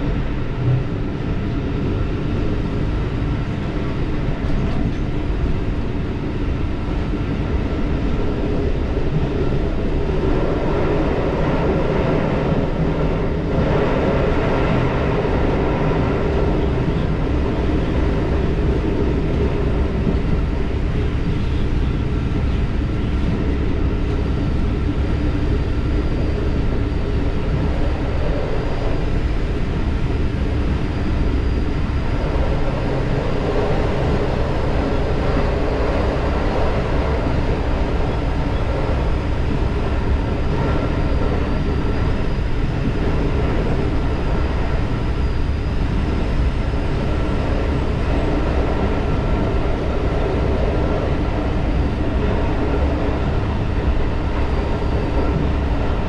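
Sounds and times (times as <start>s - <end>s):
railcar engine and wheel rumble: 0.0s - 56.0s.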